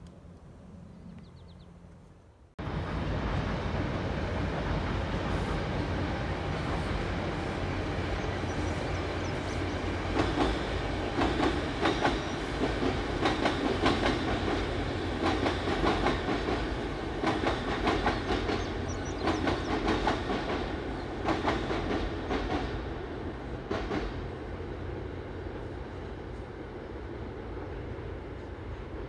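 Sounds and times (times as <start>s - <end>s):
train rumbling: 0.1s - 29.0s.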